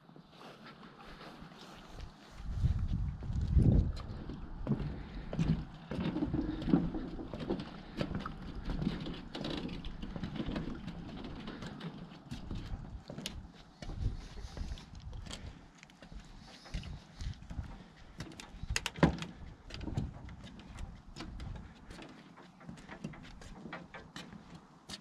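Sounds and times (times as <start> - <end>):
footsteps on wooden dock: 0.1 - 25.0.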